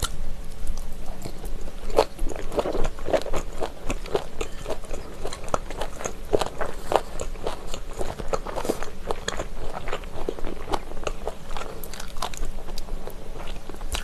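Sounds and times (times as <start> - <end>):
crunching cartilage: 0.0 - 14.0.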